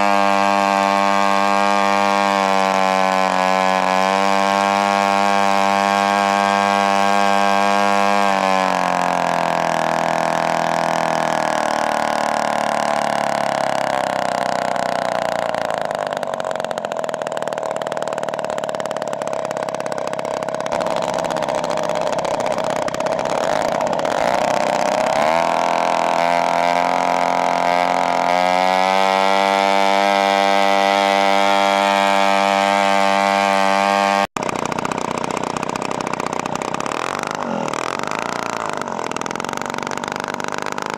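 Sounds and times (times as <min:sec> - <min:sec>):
model plane engine running: 0:00.0 - 0:40.9.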